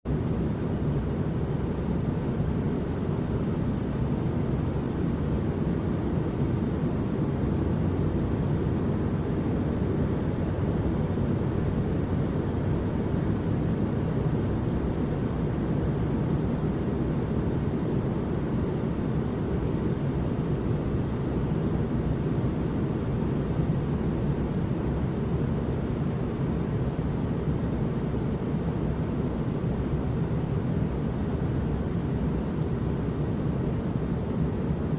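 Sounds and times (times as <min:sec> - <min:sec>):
deep rumbling white noise: 0:00.1 - 0:34.9.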